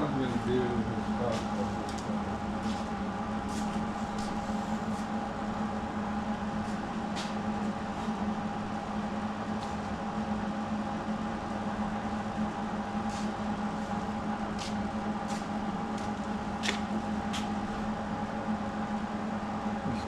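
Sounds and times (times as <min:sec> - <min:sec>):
mechanical motor hum: 0:00.0 - 0:20.0.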